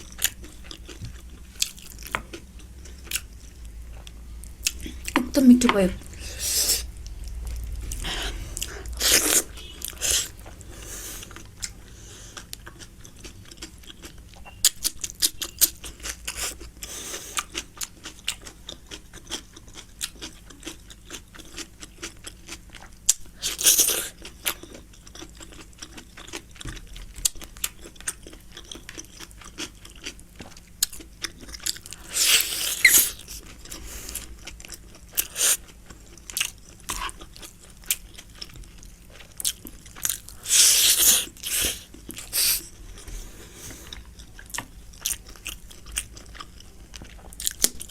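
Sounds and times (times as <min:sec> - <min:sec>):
wet chewing and crunching: 0:00.0 - 0:05.3, 0:07.0 - 0:47.9.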